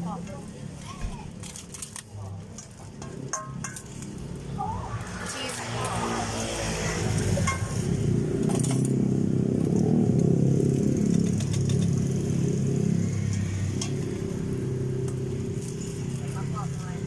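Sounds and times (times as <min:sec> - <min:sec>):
engine running: 0:02.0 - 0:17.0.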